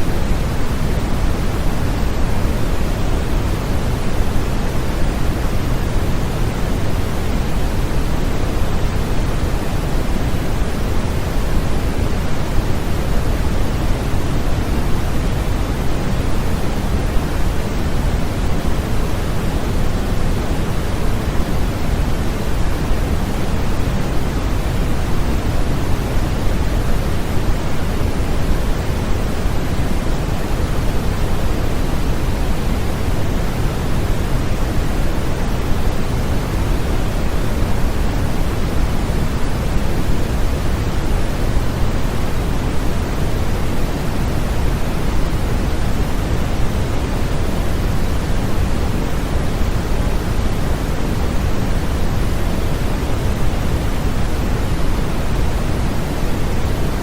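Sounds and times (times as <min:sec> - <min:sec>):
steady pink noise: 0:00.0 - 0:57.0.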